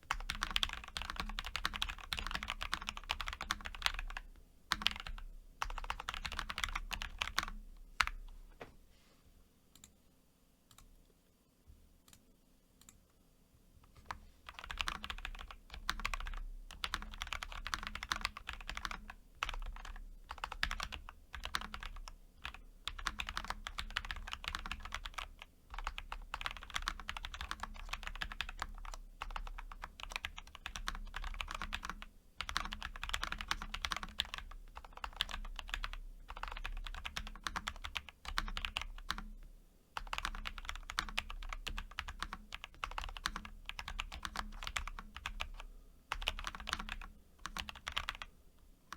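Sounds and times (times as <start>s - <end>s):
mechanical keyboard typing: 0.1s - 8.2s, 13.9s - 39.3s, 40.0s - 48.3s.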